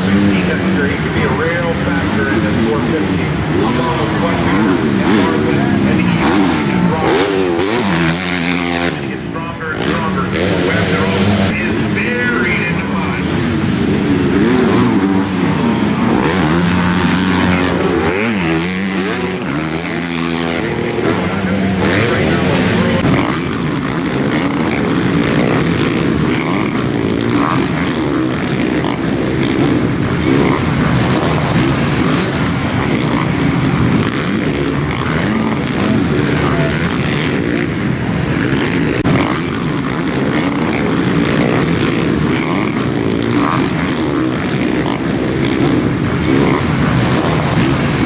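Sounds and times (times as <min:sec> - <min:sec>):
motorcycle engines racing: 0:00.0 - 0:48.0.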